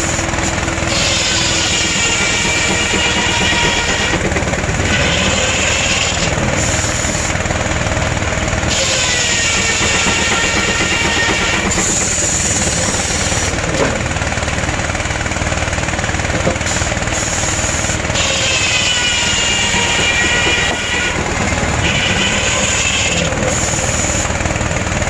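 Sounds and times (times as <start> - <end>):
circular saw whine cutting wood: 0.0 - 25.0
heavy din of mill machinery: 0.0 - 25.0.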